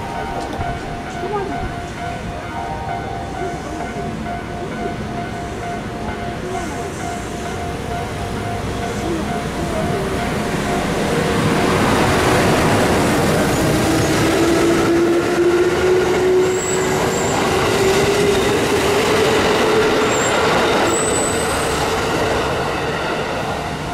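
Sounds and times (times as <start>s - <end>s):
electric train accelerating past: 0.0s - 23.9s
train wheels on rails: 0.0s - 23.9s.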